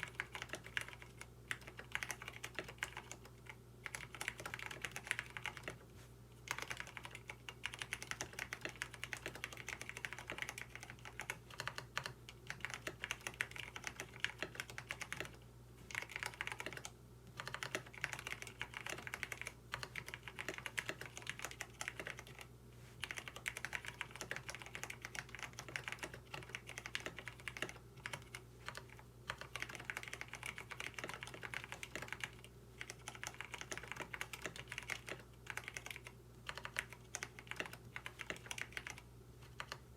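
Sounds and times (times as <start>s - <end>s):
fast typing on mechanical keyboard: 0.0s - 5.8s, 6.5s - 39.8s.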